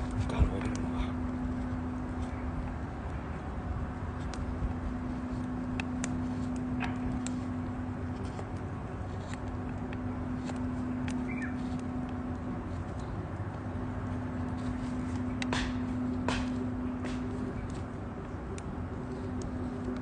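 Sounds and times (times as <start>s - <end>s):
campfire crackling and popping: 0.0s - 20.0s
low hiss and hum: 0.0s - 20.0s.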